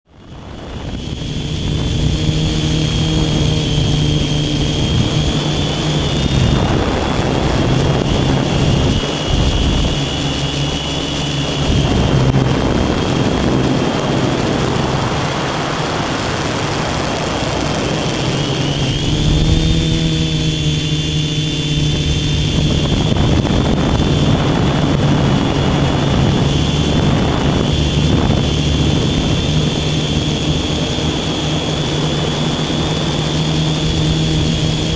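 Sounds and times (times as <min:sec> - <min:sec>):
drone motors humming: 0:00.1 - 0:34.9
wind rushing over microphone: 0:00.1 - 0:34.9.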